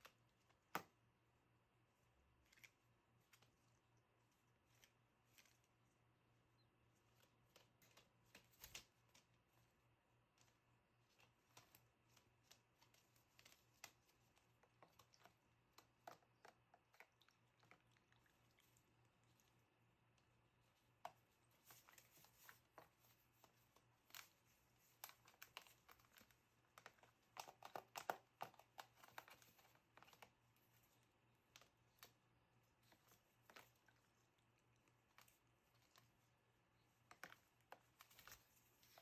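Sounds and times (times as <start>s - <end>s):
small bird pecking and scrabbling: 2.2s - 39.0s.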